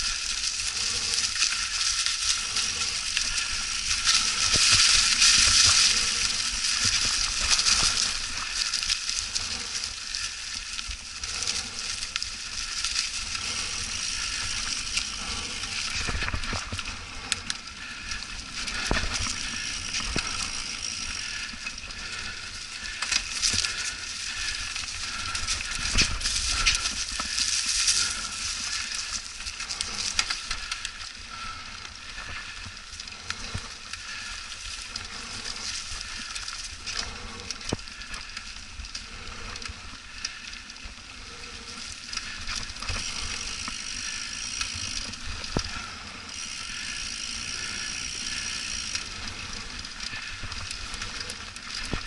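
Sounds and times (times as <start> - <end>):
bike tyres crunching dry leaves: 0.0 - 52.0.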